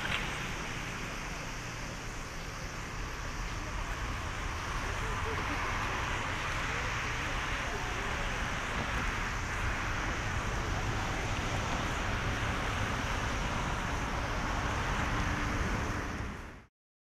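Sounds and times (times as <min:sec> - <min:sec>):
jet engines roaring: 0:00.0 - 0:16.5.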